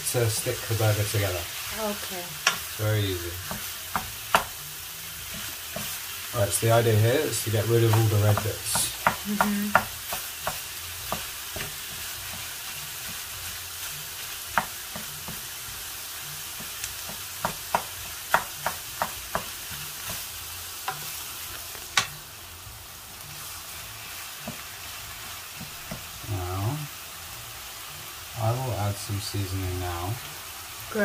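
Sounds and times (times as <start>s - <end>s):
meat sizzling in a frying pan: 0.0s - 31.0s.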